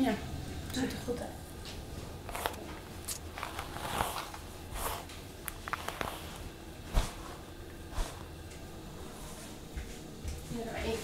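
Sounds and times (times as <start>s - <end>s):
rustling of handled objects: 1.7s - 11.0s.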